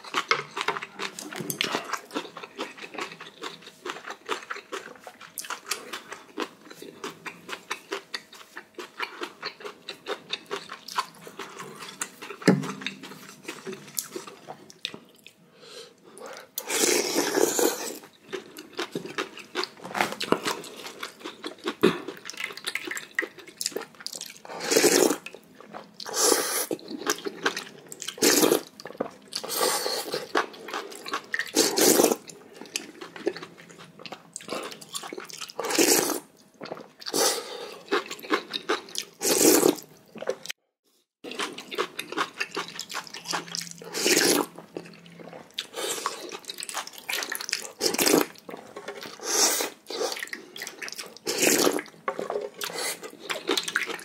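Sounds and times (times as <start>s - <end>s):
chewing: 0.0s - 15.4s, 16.2s - 40.6s, 41.3s - 54.0s.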